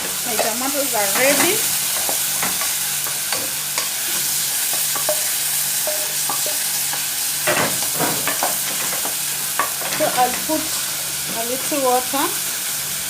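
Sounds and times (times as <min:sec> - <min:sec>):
spoon scraping a pan: 0:00.0 - 0:10.8
food sizzling in a pan: 0:00.0 - 0:13.0.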